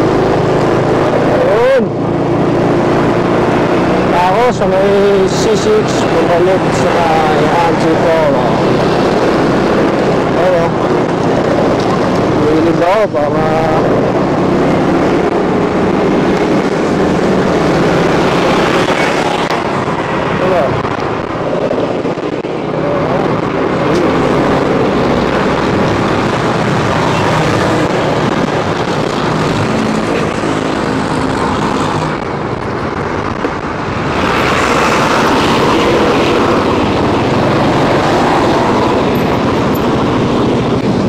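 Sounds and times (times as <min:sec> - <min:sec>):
road noise: 0:00.0 - 0:41.0.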